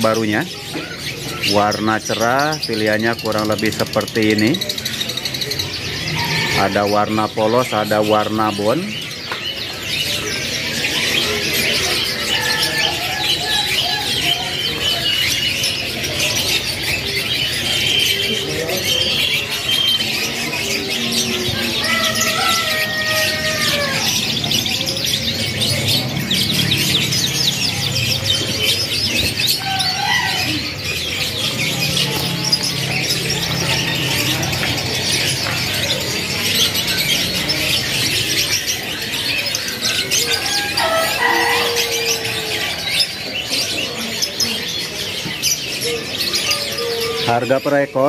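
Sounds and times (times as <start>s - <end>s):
canaries chirping and twittering: 0.0s - 48.0s.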